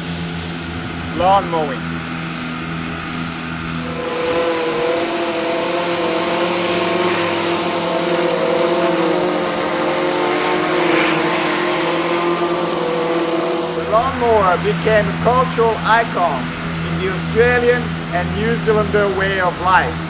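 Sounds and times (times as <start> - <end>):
petrol lawnmower engine running: 0.0 - 20.0.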